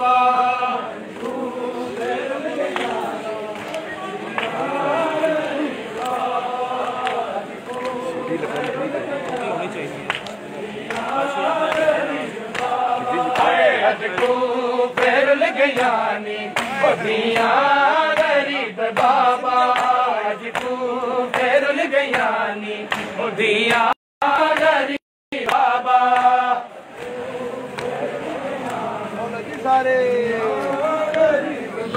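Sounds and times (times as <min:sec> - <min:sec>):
crowd chanting in unison: 0:00.0 - 0:31.9
rhythmic chest-beating: 0:00.0 - 0:31.9.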